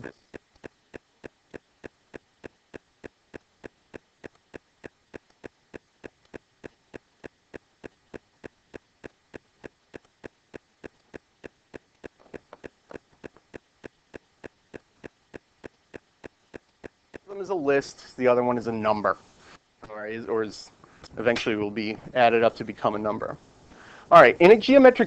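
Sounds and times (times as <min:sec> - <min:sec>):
faint steady ticking: 0:00.0 - 0:25.0.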